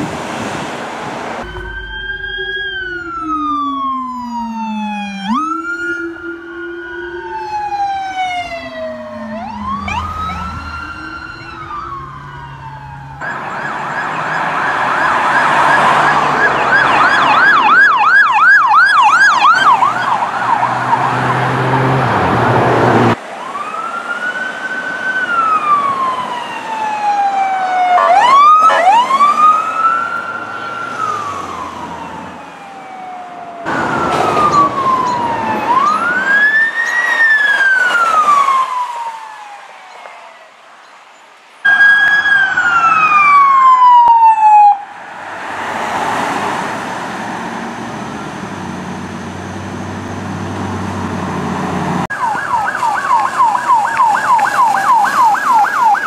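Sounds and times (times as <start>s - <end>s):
police siren wail: 1.3s - 40.8s, 41.6s - 56.0s
police siren yelp: 1.4s - 40.6s, 41.7s - 45.0s, 51.0s - 56.0s.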